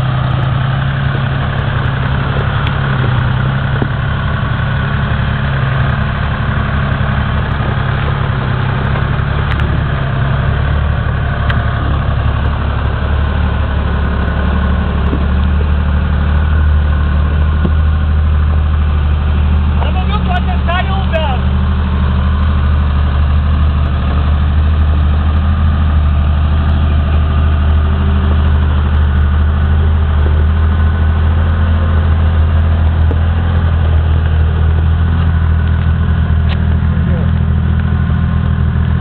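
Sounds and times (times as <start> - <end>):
diesel engine running at low revs: 0.0 - 39.0.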